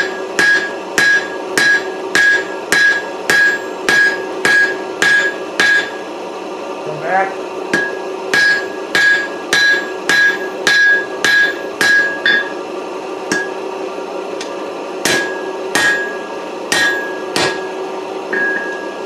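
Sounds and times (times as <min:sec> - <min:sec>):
hammer striking steel on anvil: 0:00.0 - 0:06.1, 0:07.7 - 0:12.6, 0:13.3 - 0:13.6, 0:14.4 - 0:19.0.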